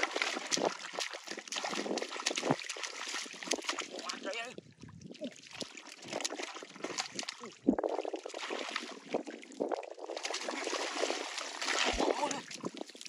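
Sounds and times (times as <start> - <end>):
hands squelching through mud: 0.0 - 4.3, 5.4 - 13.0
water splashing: 0.0 - 13.0.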